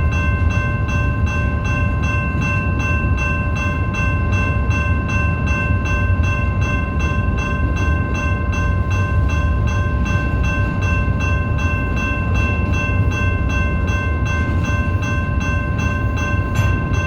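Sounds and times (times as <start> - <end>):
train bell ringing: 0.0 - 17.0
train running: 0.0 - 17.0.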